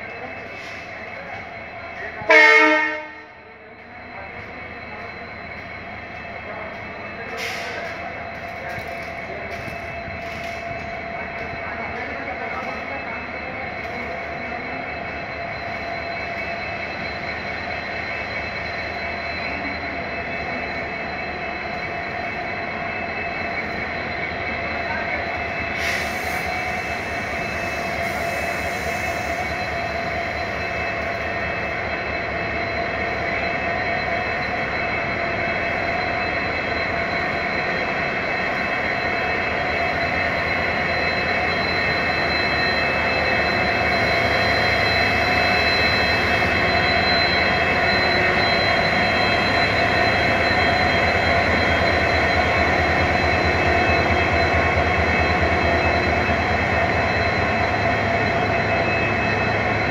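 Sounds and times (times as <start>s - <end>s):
diesel locomotive engine drone: 0.0s - 59.9s
high steady tone: 0.0s - 59.9s.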